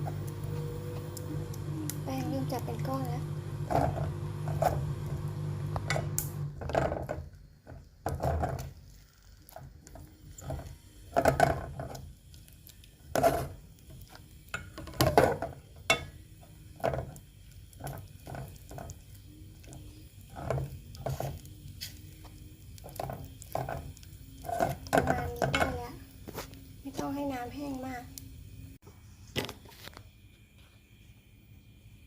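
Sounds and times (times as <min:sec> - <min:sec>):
utensil scraping paste in a pot: 0:00.0 - 0:05.2, 0:05.8 - 0:27.2.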